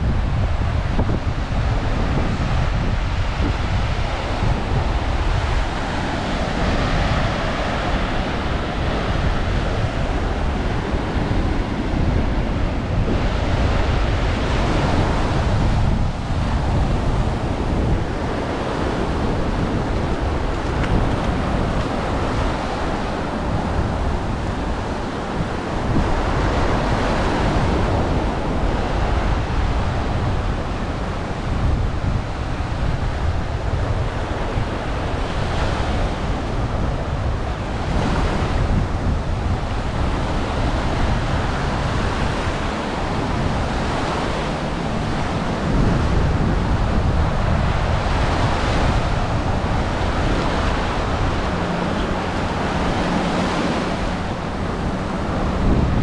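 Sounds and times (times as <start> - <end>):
small waves breaking on shore: 0.0 - 56.0
wind rumbling on microphone: 0.0 - 56.0.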